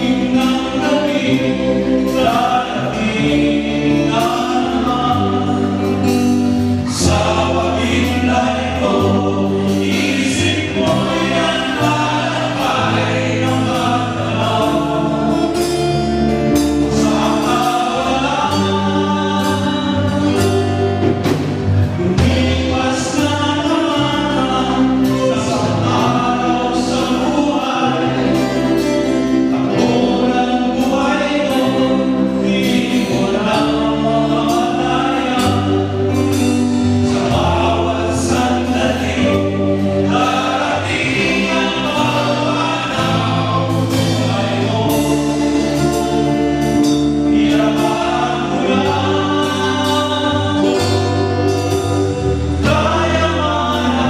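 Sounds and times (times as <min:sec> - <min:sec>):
group singing gospel song: 0:00.0 - 0:54.0
live band playing: 0:00.0 - 0:54.0.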